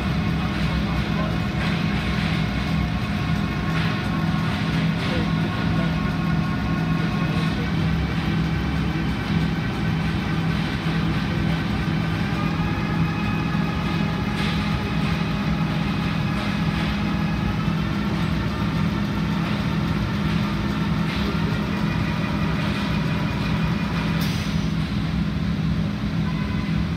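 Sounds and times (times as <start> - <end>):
faint machine whine: 0.0 - 26.9
packaging machines humming: 0.0 - 26.9.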